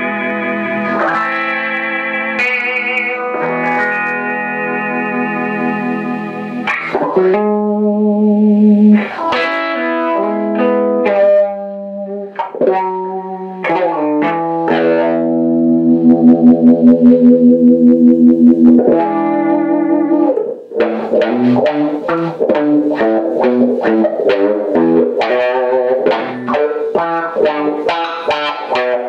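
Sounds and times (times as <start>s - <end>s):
electric guitar through wah pedal: 0.0s - 29.0s.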